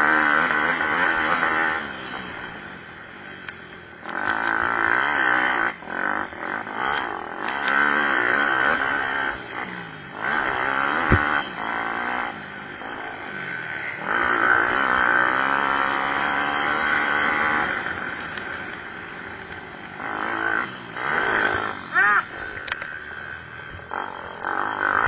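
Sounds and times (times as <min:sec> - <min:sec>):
pit bike engines revving: 0:00.0 - 0:25.0.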